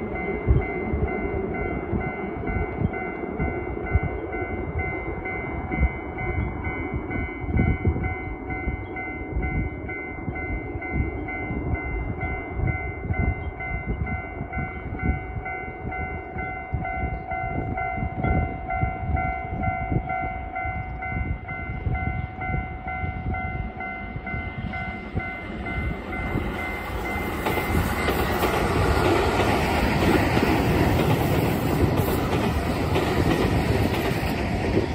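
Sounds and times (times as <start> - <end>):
electric train passing: 0.0 - 34.9.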